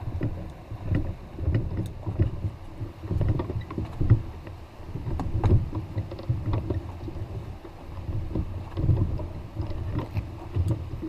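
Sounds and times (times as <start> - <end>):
canoe hull jostling: 0.0 - 11.0
wind on microphone: 0.0 - 11.0.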